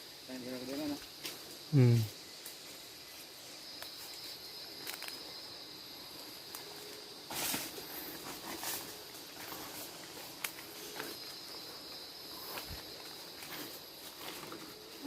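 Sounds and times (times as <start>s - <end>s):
forest insects droning: 0.0s - 15.0s.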